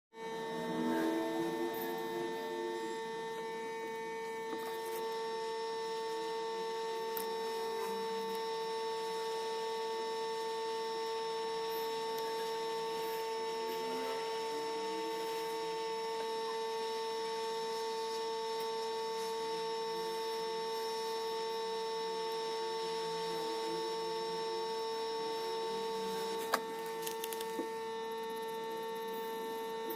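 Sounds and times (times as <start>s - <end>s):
steady electronic hum: 0.1s - 29.9s.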